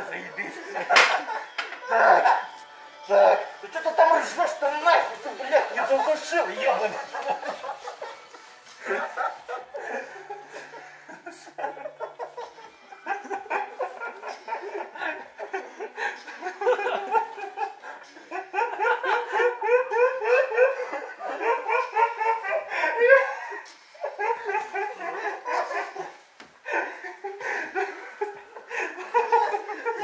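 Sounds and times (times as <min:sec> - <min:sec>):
people laughing: 0:00.0 - 0:30.0.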